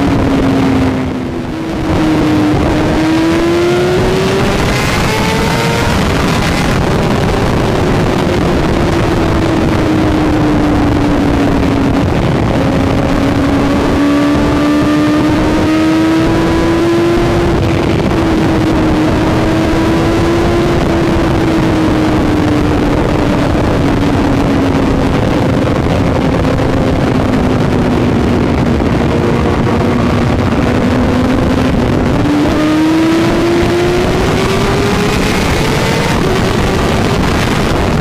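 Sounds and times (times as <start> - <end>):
motorcycle engine at high revs: 0.0 - 38.0
wind rush: 0.0 - 38.0.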